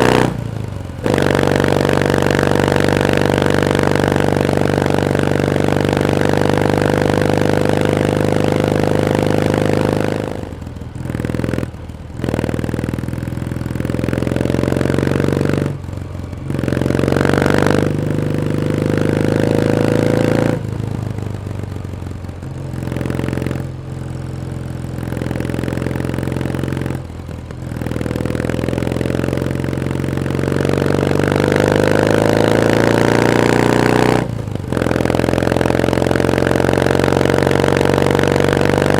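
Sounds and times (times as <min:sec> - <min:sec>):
motorcycle engine under load: 0:00.0 - 0:38.9.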